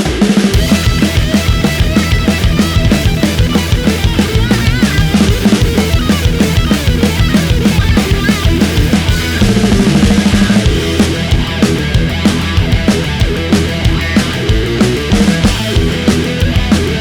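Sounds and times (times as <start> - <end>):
distorted guitar: 0.0 - 17.0
rock music with heavy drums: 0.0 - 17.0.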